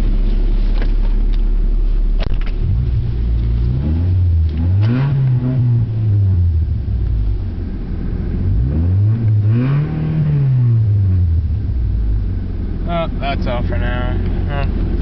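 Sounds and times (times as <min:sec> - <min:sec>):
loud car engine revving: 0:02.1 - 0:15.0.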